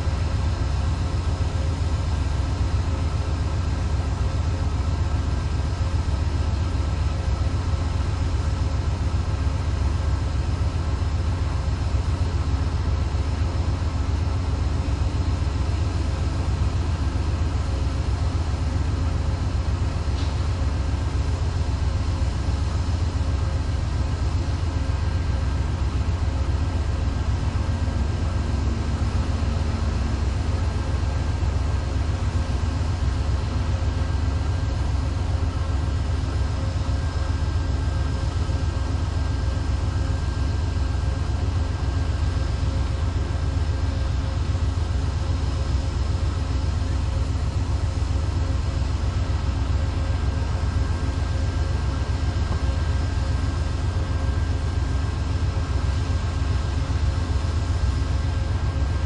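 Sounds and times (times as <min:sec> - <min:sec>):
diesel locomotive idling: 0:00.0 - 0:59.0.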